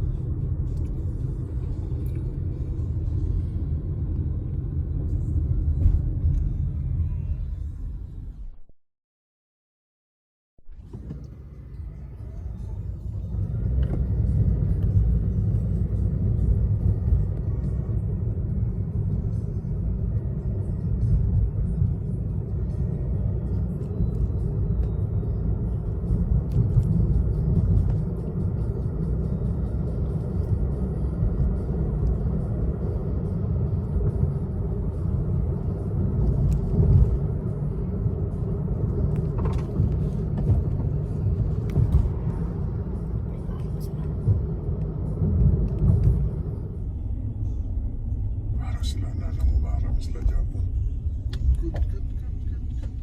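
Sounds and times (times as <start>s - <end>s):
car interior driving rumble: 0.0s - 8.7s, 10.6s - 53.0s.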